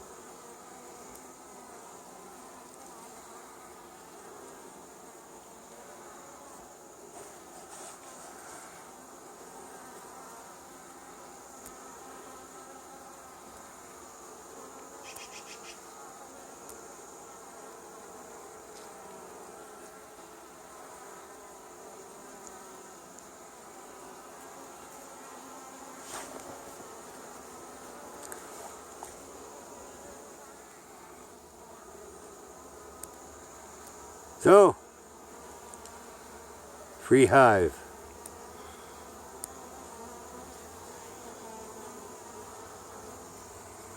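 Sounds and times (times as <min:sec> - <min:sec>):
honey bees buzzing: 0:00.0 - 0:43.9.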